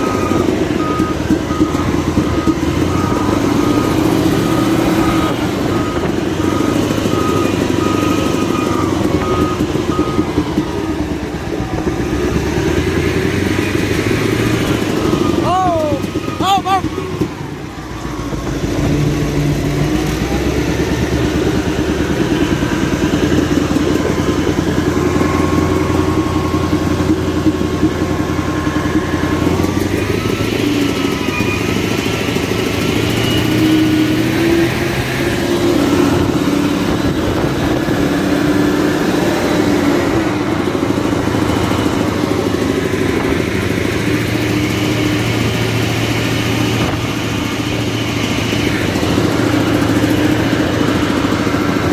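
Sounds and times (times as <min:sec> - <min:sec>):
diesel engine running loudly: 0:00.0 - 0:51.9.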